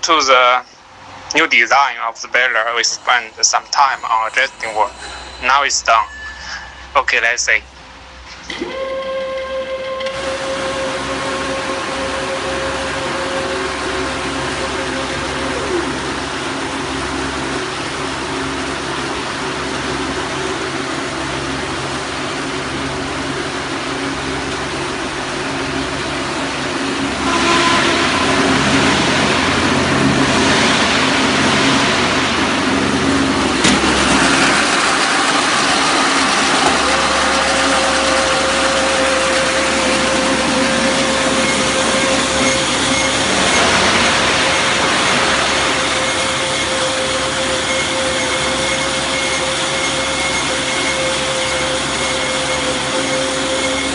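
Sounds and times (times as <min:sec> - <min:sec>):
steady whine: 0:00.0 - 0:53.9
baler machine running: 0:02.3 - 0:07.1, 0:07.9 - 0:53.9.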